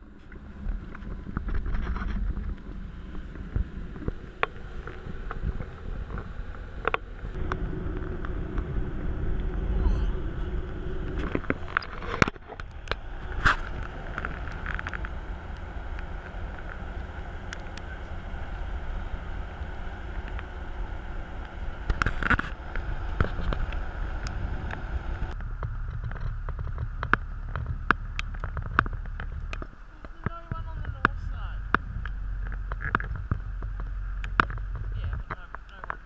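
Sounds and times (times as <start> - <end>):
car road noise: 0.0 - 36.0
low rumble with sharp clicks: 0.0 - 36.0.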